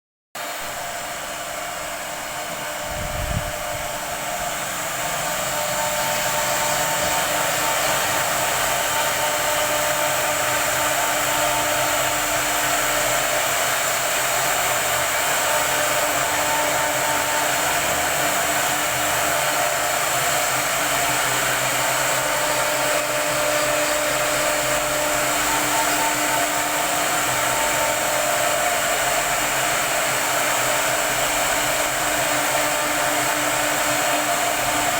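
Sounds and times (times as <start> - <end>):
router rushing noise with whine: 0.4 - 34.9.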